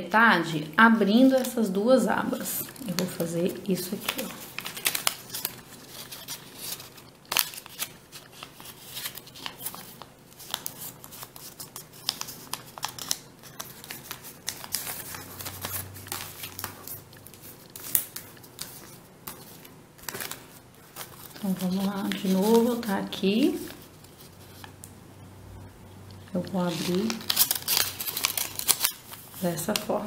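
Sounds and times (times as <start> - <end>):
paper folding and crinkling: 1.0 - 24.8, 26.3 - 30.0.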